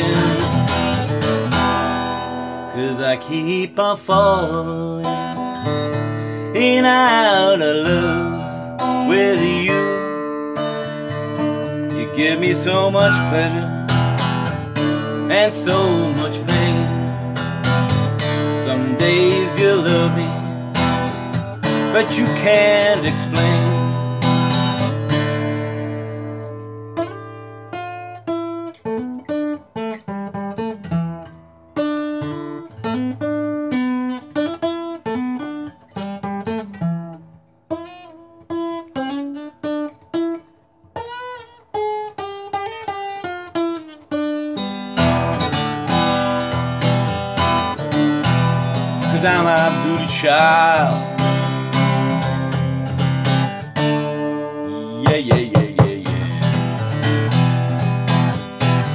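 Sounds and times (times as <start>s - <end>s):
acoustic guitar playing: 0.0s - 58.9s.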